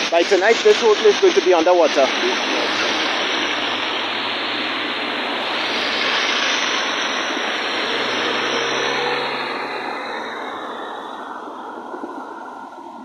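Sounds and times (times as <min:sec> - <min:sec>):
flooded river rushing: 0:00.0 - 0:13.0.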